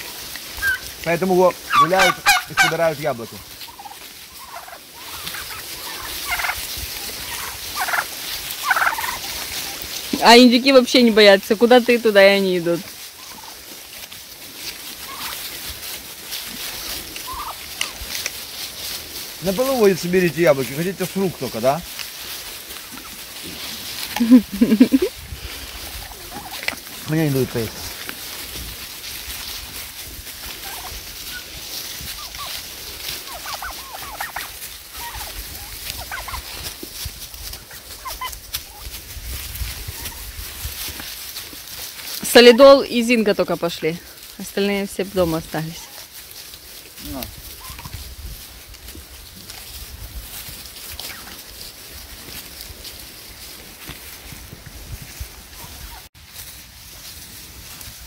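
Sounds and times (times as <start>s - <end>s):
background hiss: 0.0s - 50.0s
faint rustling: 0.0s - 58.0s
turkeys calling: 0.0s - 58.0s.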